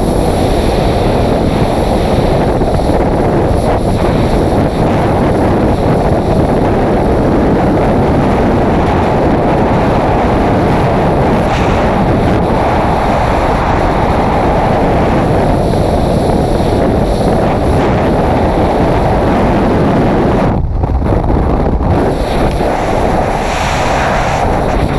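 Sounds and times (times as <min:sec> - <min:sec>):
freefall wind rushing on microphone: 0:00.0 - 0:24.9.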